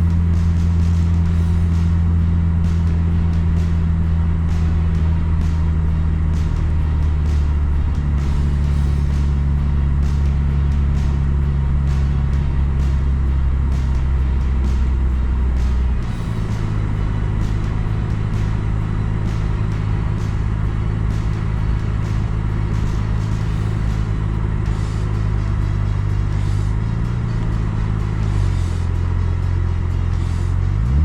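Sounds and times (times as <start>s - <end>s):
car engine and tyre drone: 0.0s - 31.0s.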